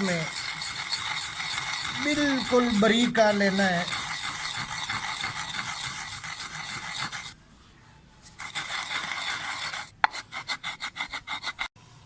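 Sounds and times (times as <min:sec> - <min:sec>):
seeds being ground by hand: 0:00.0 - 0:07.4, 0:08.4 - 0:11.7.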